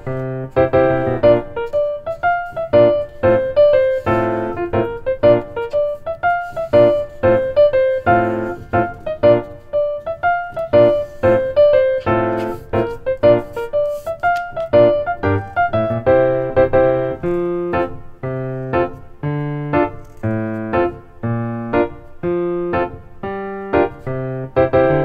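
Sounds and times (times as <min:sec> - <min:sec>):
keyboard tune: 0:00.0 - 0:25.0.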